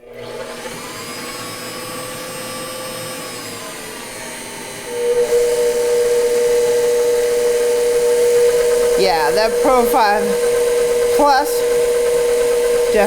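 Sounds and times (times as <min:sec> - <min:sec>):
stand mixer motor whining: 0:00.0 - 0:13.0.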